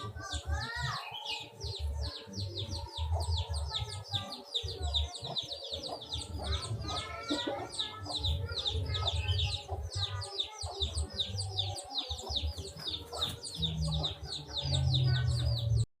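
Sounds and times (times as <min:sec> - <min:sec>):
chickens clucking: 0:00.0 - 0:15.9
chicks peeping: 0:00.0 - 0:15.9.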